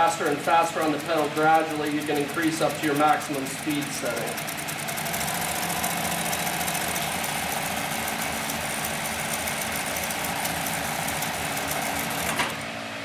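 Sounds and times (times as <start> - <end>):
sewing machine stitching: 0.0 - 12.7.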